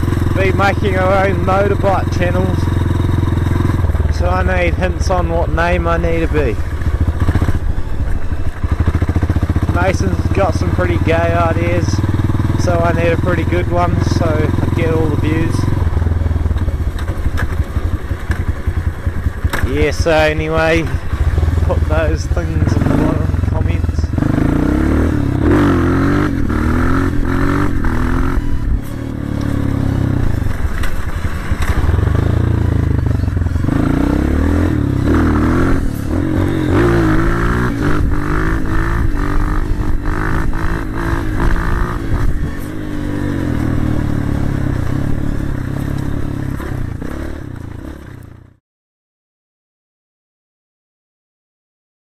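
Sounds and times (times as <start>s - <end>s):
dirt bike engine revving: 0.0s - 48.5s
bike rattling over rough track: 0.0s - 48.6s.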